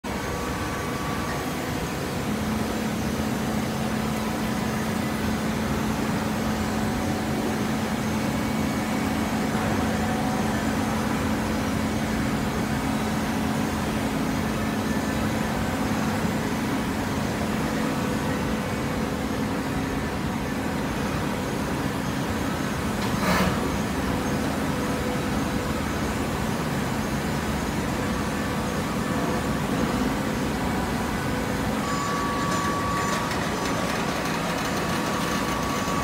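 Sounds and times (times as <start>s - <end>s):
baling press machine hum: 0.0s - 36.0s.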